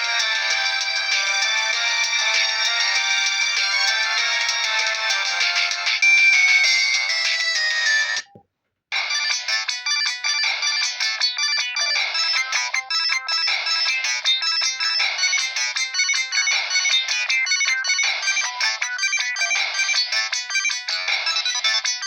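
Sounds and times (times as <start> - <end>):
phone ringtone melody: 0.0 - 8.4, 9.0 - 22.0.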